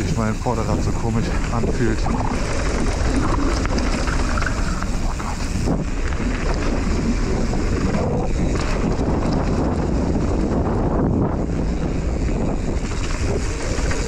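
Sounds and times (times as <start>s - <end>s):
bike tyres rolling on gravel: 0.0s - 14.0s
wind rushing over microphone: 0.0s - 14.0s.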